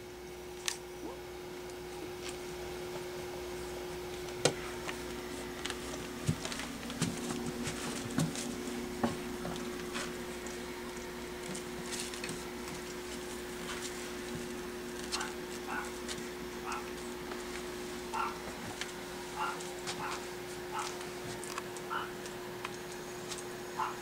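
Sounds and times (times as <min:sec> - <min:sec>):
steady hum: 0:00.0 - 0:24.0
puppies playing taps and scuffles: 0:04.1 - 0:23.9.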